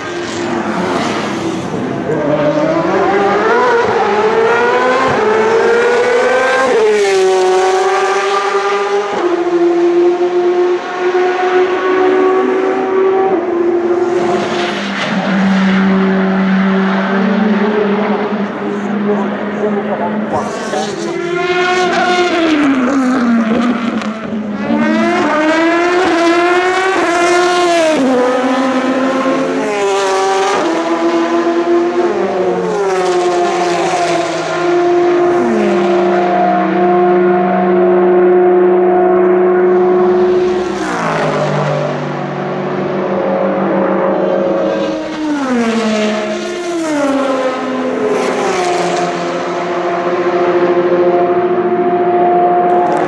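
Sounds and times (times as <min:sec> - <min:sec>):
race cars at full throttle: 0:00.0 - 0:53.0.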